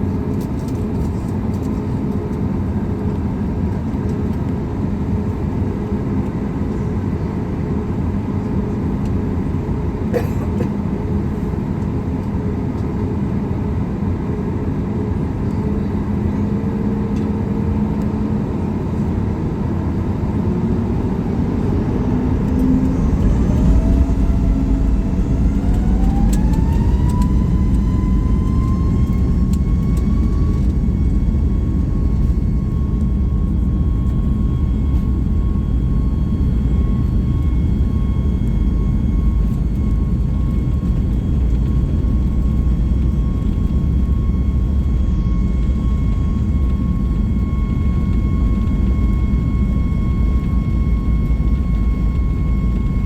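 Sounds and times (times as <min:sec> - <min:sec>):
deep engine rumble: 0:00.0 - 0:53.0
jet engine whine: 0:00.0 - 0:53.0
jet engines humming from cabin: 0:00.0 - 0:53.0.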